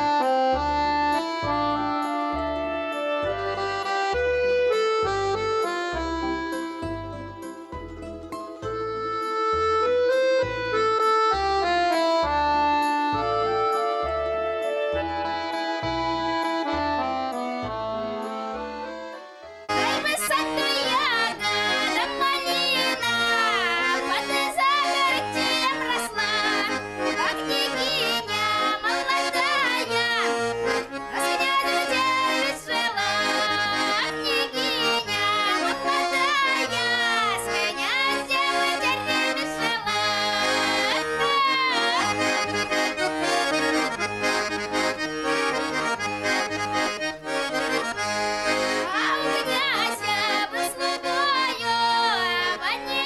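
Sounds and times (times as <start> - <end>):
accordion playing tune: 0.0 - 53.0.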